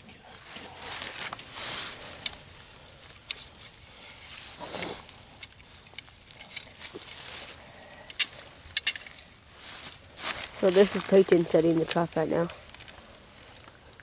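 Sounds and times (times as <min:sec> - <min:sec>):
hands rustling dry grass: 0:00.0 - 0:14.0.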